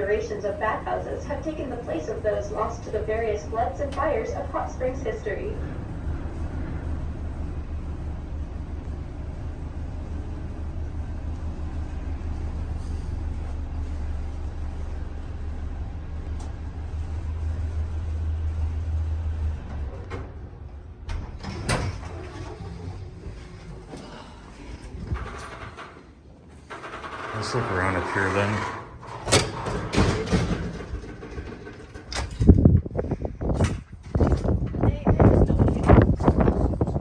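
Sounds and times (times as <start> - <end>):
elevator clunks: 0.0 - 9.4, 10.1 - 37.0
elevator humming: 0.0 - 37.0.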